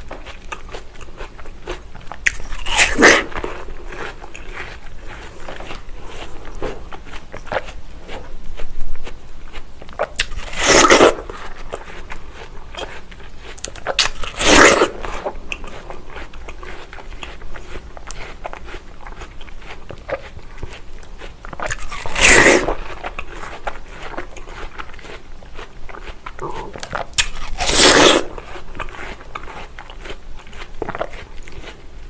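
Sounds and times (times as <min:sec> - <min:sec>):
juicy watermelon bites: 0:00.0 - 0:31.8
wet crunchy chewing: 0:00.0 - 0:32.0.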